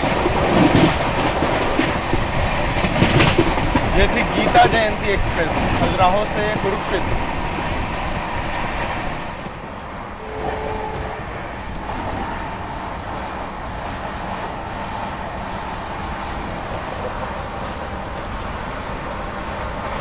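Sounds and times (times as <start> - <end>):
train passing alongside: 0.0 - 20.0
train wheels rumbling on rails: 0.0 - 20.0.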